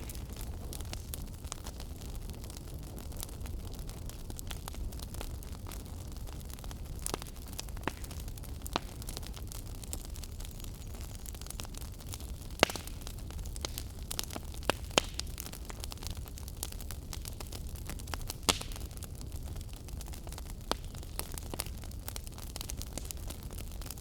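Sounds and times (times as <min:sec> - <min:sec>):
fire crackles and pops: 0:00.0 - 0:24.0
low rumble of flames: 0:00.0 - 0:24.0.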